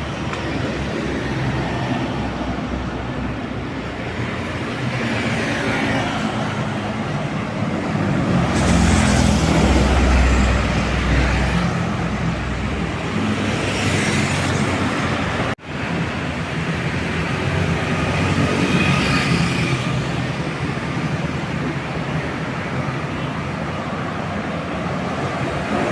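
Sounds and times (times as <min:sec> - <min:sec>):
bus engine passing close: 0:00.0 - 0:25.9
road traffic: 0:00.0 - 0:25.9.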